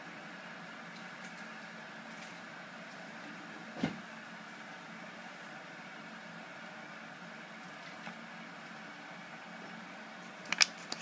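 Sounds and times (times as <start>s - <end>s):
low hum with hiss: 0.0s - 11.0s.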